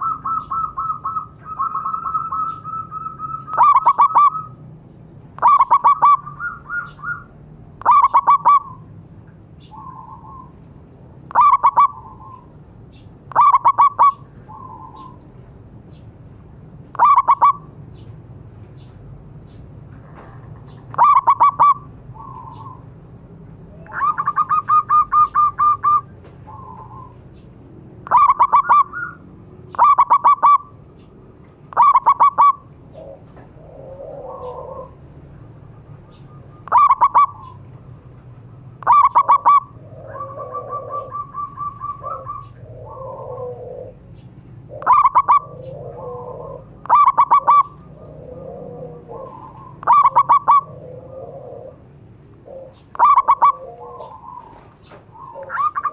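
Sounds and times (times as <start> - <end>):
dove cooing: 0.0 - 4.6, 5.4 - 8.9, 9.6 - 10.6, 11.3 - 12.6, 13.3 - 15.3, 16.9 - 17.7, 20.1 - 22.9, 23.7 - 27.4, 28.0 - 30.8, 31.7 - 55.9.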